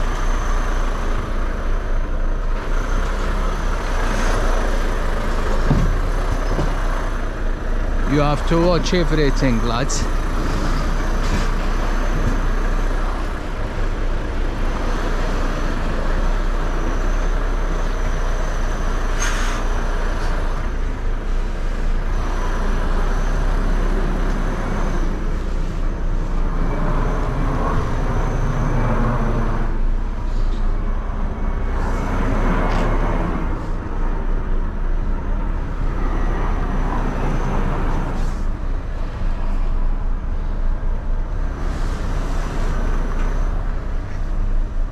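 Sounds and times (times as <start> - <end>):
truck diesel engine low hum: 0.0 - 44.9.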